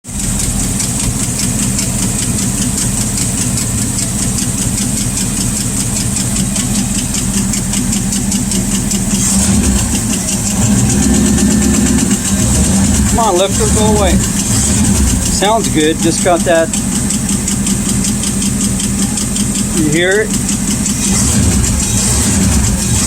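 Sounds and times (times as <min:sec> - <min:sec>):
car engine idling: 0:00.0 - 0:23.0
valvetrain ticking: 0:00.0 - 0:23.0.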